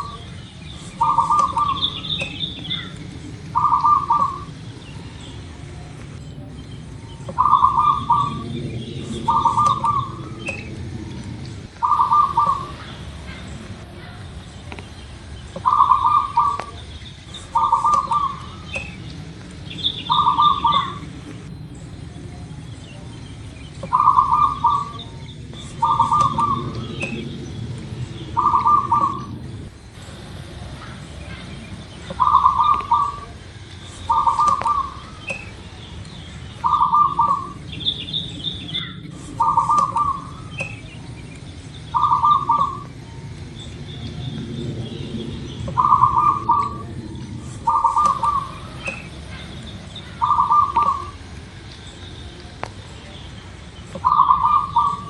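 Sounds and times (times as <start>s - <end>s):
dove cooing: 0.0s - 22.7s, 23.8s - 35.8s, 36.4s - 51.3s, 53.9s - 55.0s
faint birds chirping: 0.0s - 55.0s
low background rumble: 0.0s - 55.0s.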